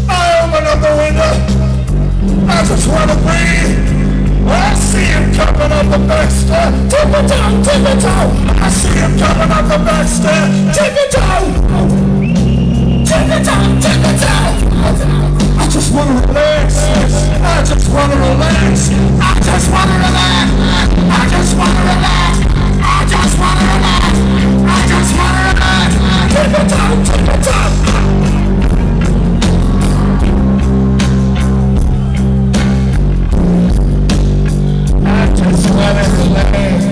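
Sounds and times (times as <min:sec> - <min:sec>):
live rock band: 0:00.0 - 0:36.9.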